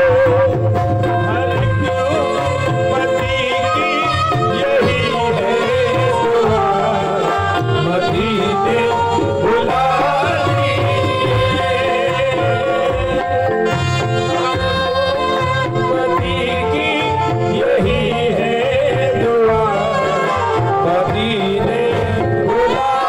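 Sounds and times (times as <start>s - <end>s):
harmonium and saxophone melody: 0.0s - 23.0s
man singing: 0.0s - 23.0s
tabla: 0.0s - 23.0s.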